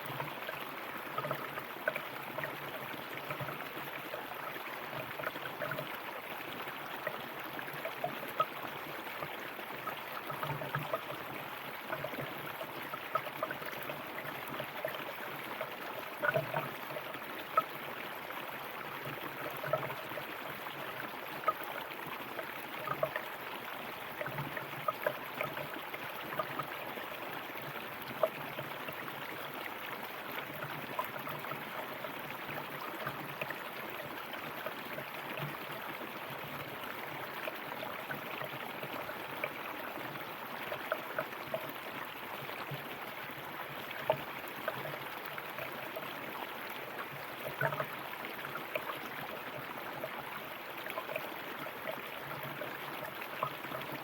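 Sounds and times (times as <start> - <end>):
river water over stones: 0.0 - 54.0
water splashes and gurgles: 0.0 - 54.0.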